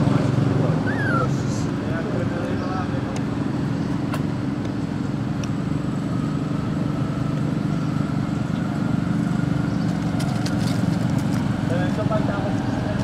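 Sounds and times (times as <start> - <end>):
steady low engine rumble: 0.0 - 13.0.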